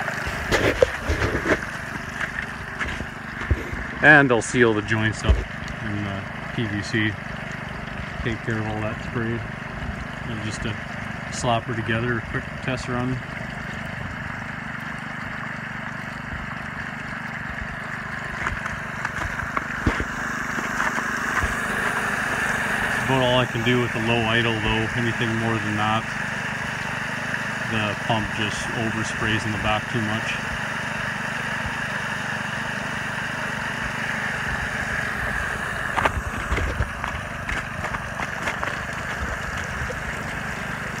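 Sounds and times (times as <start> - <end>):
sharp water splashes: 0.0 - 41.0
water pump engine idling: 0.0 - 41.0
water rushing and pouring: 0.0 - 41.0.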